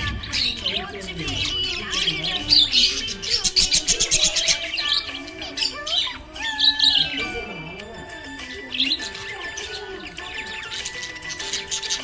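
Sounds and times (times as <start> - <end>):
background music: 0.0 - 12.0
budgerigars chattering: 0.0 - 12.0.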